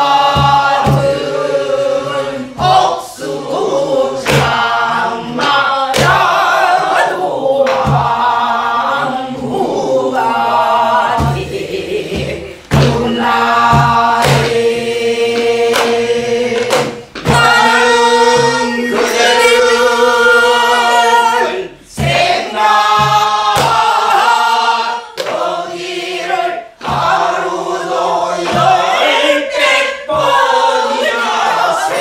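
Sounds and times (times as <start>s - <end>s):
barrel drum beats: 0.0s - 32.0s
women singing folk song: 0.0s - 32.0s.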